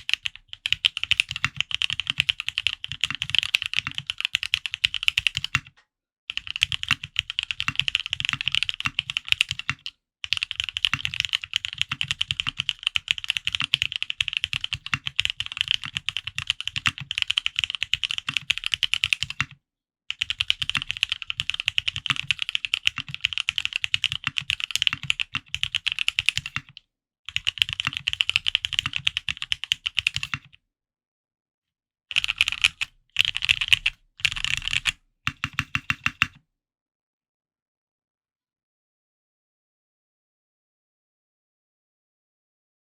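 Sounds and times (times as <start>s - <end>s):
mechanical keyboard typing: 0.0s - 30.5s, 32.1s - 36.4s.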